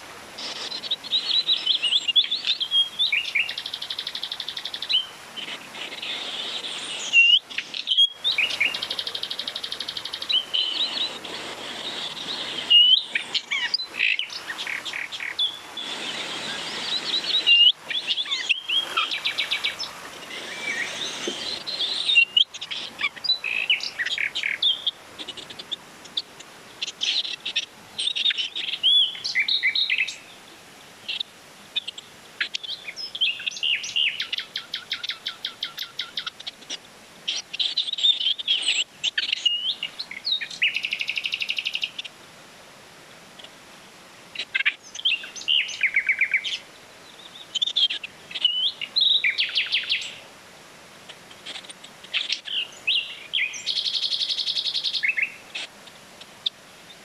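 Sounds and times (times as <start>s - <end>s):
songbirds chirping and trilling: 0.0s - 42.4s, 43.2s - 50.4s, 51.0s - 57.0s
stream rushing: 0.0s - 57.0s.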